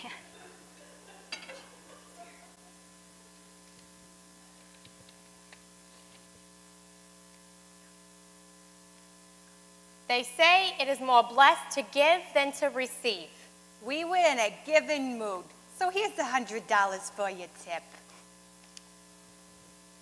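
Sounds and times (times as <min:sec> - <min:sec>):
faint mains hum: 0:00.0 - 0:20.0.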